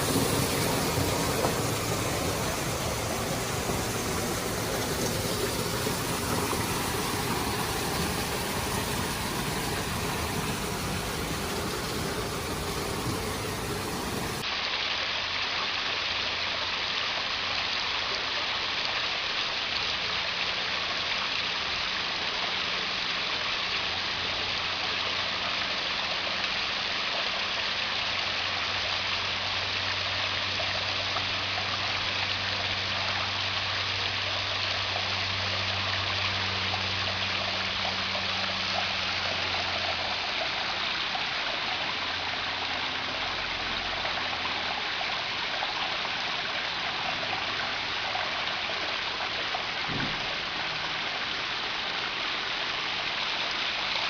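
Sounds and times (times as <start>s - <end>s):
waterfall splashing: 0.0s - 54.0s.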